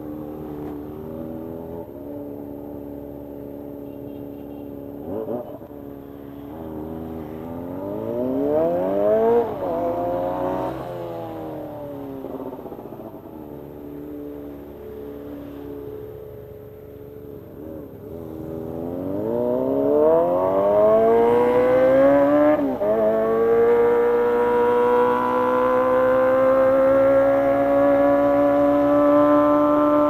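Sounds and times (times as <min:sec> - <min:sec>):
motorcycle engine revving: 0:00.0 - 0:04.0, 0:04.6 - 0:16.1, 0:17.4 - 0:30.0.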